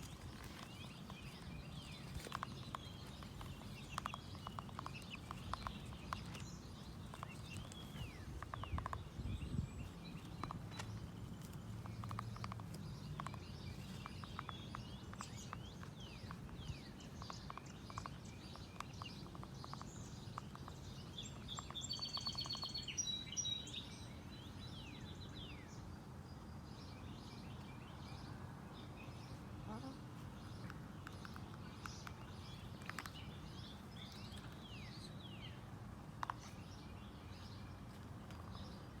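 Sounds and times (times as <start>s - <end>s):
wild birds chirping: 0.0s - 39.0s.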